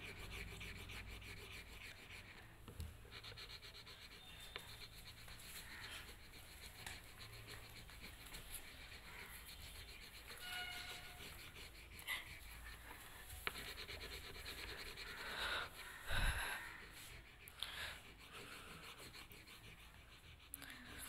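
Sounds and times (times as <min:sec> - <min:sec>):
crayon rubbing on paper: 0:00.0 - 0:21.0.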